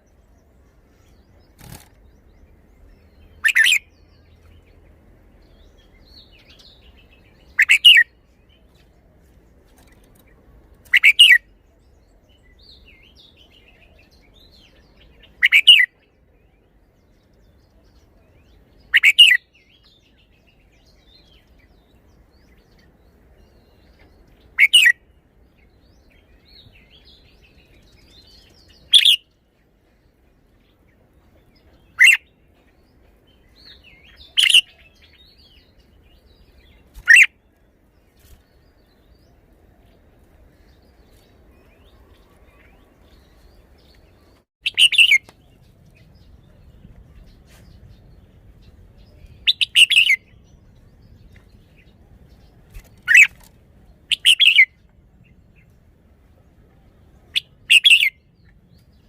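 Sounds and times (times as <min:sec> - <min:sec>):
bird song phrases: 0:00.0 - 0:59.0.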